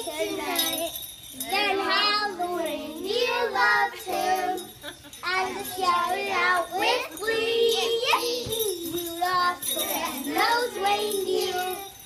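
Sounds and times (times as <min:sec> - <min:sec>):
children singing a carol: 0:00.0 - 0:12.0.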